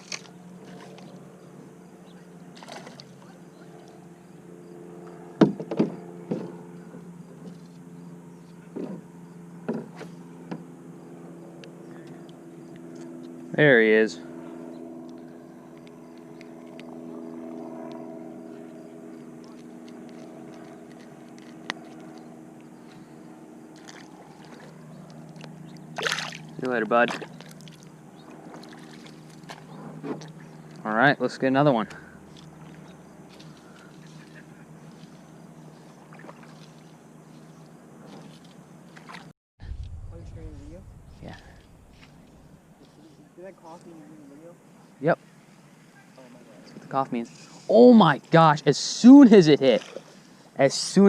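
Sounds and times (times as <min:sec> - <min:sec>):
distant motor droning: 0:00.0 - 0:51.0
low mechanical hum: 0:00.0 - 0:51.0.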